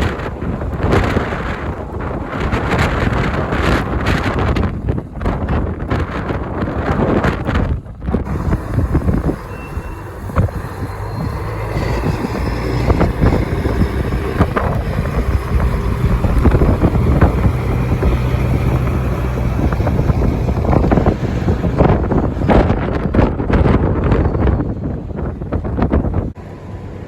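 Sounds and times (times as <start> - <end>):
low vehicle rumble: 0.0 - 27.0
wind buffeting microphone: 0.0 - 27.0.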